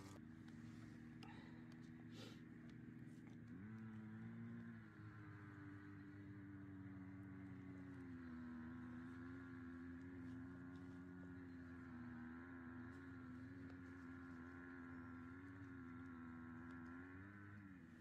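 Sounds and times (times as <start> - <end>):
faint engine hum: 0.0 - 18.0.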